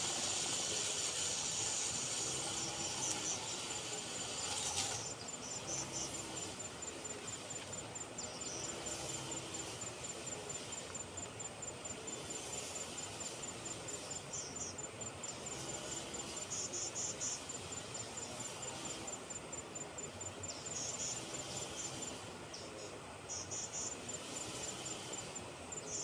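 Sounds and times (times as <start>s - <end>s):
crickets chirping: 0.0s - 26.0s
insect trills: 0.0s - 26.0s.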